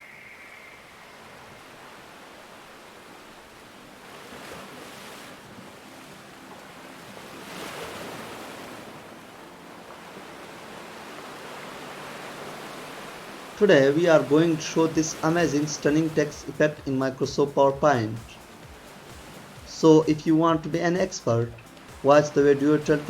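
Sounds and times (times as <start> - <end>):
ocean surf washing ashore: 0.0 - 23.0
waves breaking: 0.0 - 23.0.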